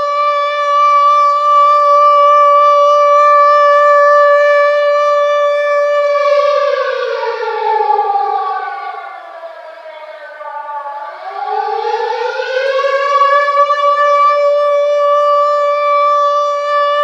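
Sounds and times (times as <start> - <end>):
air raid siren wailing: 0.0 - 17.0.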